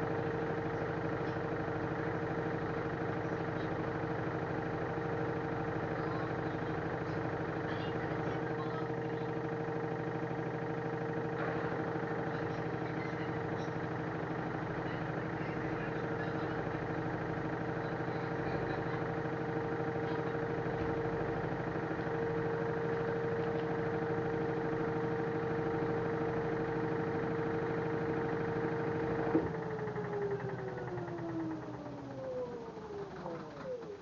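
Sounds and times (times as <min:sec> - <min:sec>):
washing machine spinning: 0:00.0 - 0:34.0.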